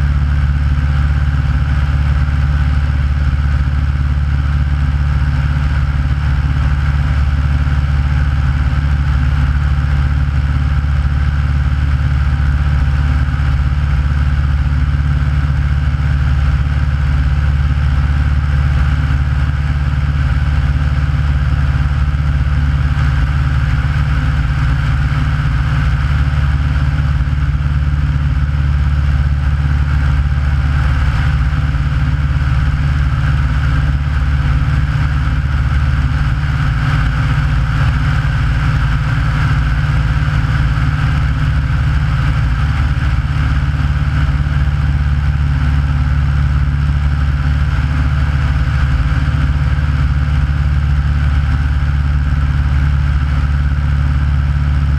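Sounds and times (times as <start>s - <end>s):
light aircraft engine and propeller: 0.0s - 54.9s.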